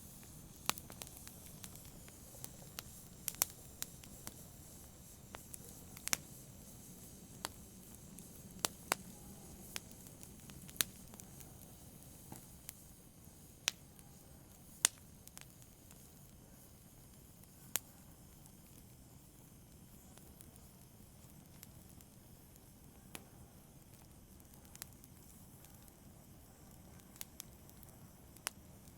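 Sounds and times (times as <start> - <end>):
fire hiss: 0.0 - 28.9
wood fire crackling: 0.0 - 28.9.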